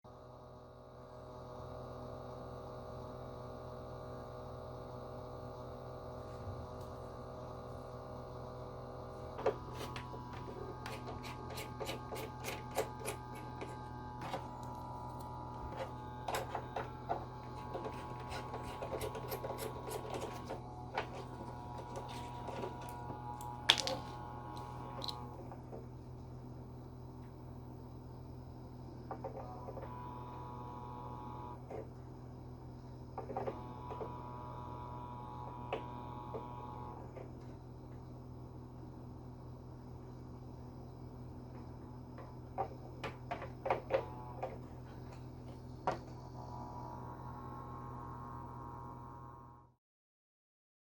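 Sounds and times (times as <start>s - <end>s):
air purifier humming: 0.2s - 49.4s.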